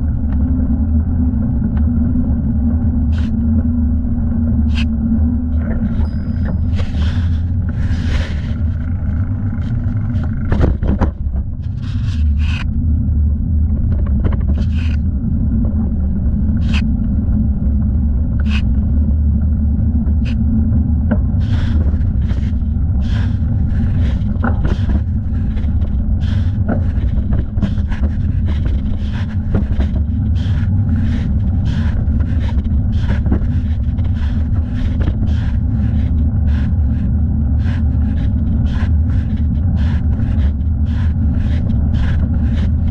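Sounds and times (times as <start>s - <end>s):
wind rumbling on microphone: 0.0s - 42.9s.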